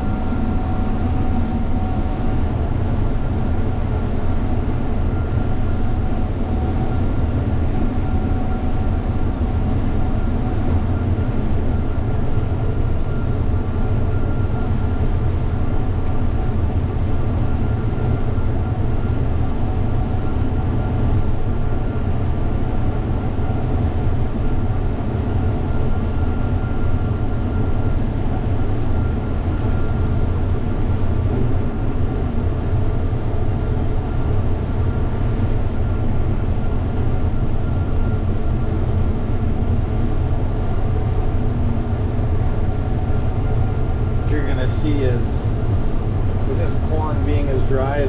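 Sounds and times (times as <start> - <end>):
combine harvester engine drone: 0.0 - 48.0
thin steady whine: 0.0 - 48.0.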